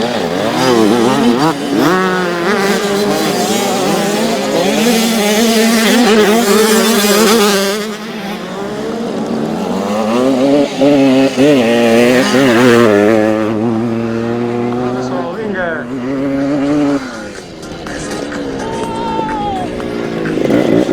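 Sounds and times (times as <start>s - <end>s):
motocross bikes revving: 0.0s - 20.9s.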